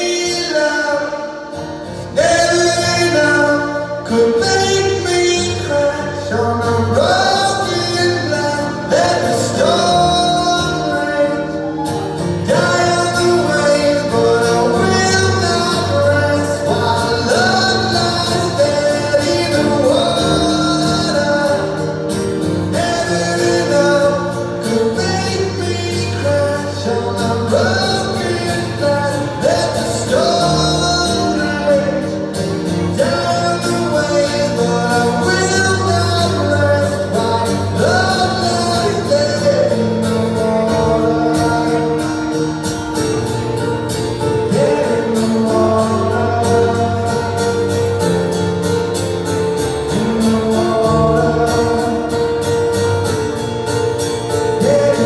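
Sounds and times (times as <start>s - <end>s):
guitar: 0.0s - 55.0s
keyboards: 0.0s - 55.0s
live band playing loud: 0.0s - 55.0s
person singing: 0.0s - 55.0s.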